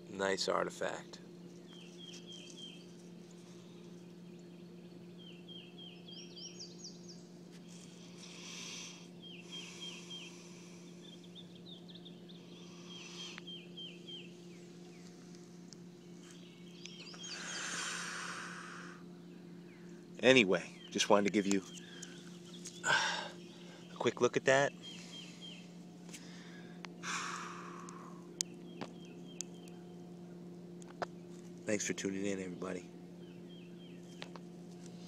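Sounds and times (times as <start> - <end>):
faint low hum: 0.0 - 35.0
songbird singing: 0.0 - 35.0.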